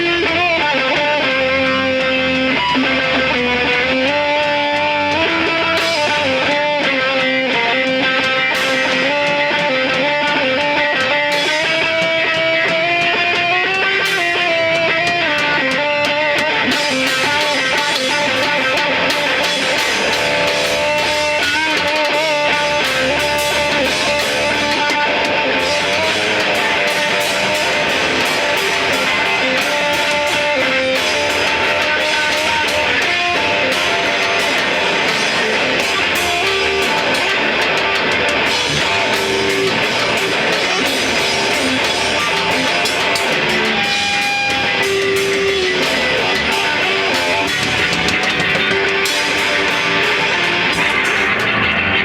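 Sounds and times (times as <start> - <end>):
electric guitar strumming: 0.0 - 52.0
lead guitar bending notes: 0.0 - 52.0.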